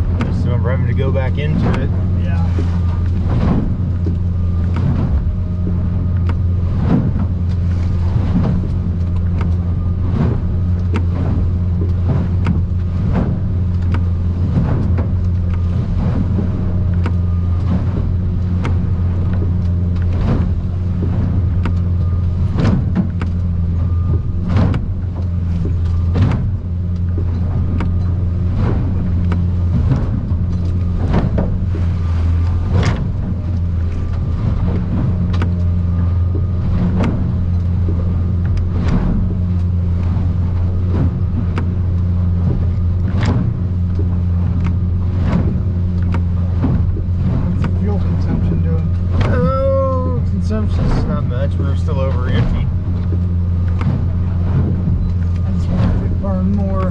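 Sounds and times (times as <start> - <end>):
hull pounding through water: 0.0 - 56.9
outboard engine droning: 0.0 - 56.9.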